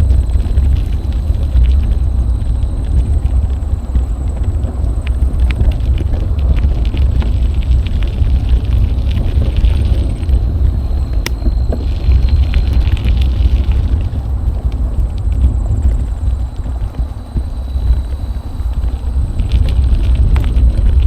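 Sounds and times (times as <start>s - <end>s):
bicycle clicks and rattles: 0.0s - 21.0s
wind buffeting microphone: 0.0s - 21.0s.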